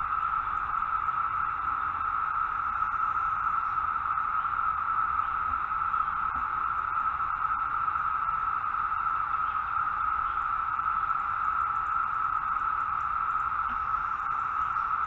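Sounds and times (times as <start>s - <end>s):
cicadas chorus humming: 0.0s - 15.0s.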